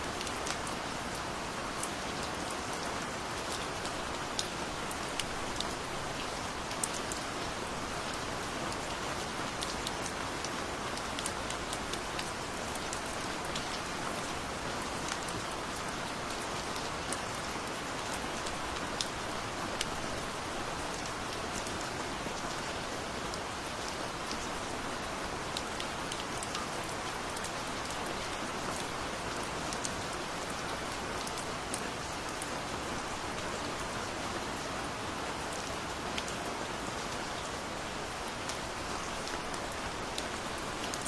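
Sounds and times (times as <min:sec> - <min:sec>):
gentle rain hiss: 0:00.0 - 0:41.0.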